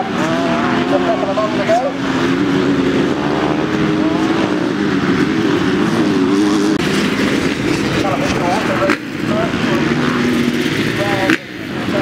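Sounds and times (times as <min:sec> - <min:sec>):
racing engines revving: 0:00.0 - 0:12.0.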